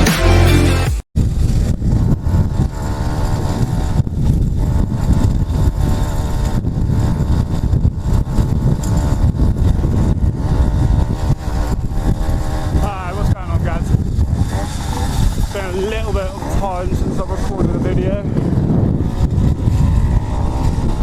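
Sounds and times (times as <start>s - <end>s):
small two-stroke engine running: 1.4s - 21.0s.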